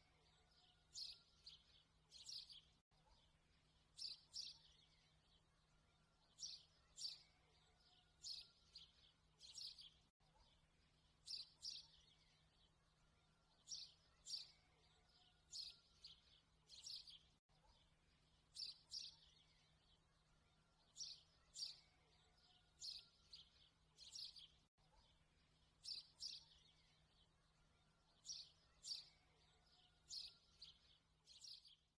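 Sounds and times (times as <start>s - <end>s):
birds chirping: 4.0s - 10.6s, 11.2s - 17.3s, 18.3s - 31.8s.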